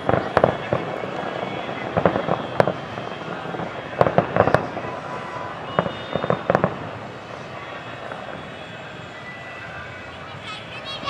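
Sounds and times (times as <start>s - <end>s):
fireworks bangs and cracks: 0.0s - 11.0s
steady background noise: 0.0s - 11.0s.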